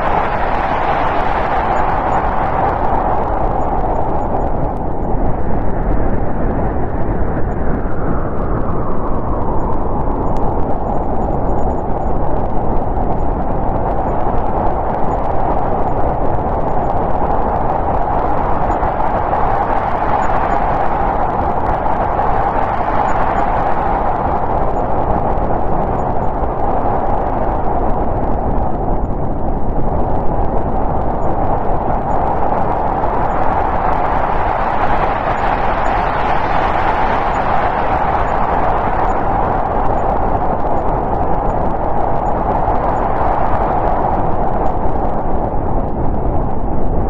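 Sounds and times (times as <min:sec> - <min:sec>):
wind rushing: 0:00.0 - 0:47.0.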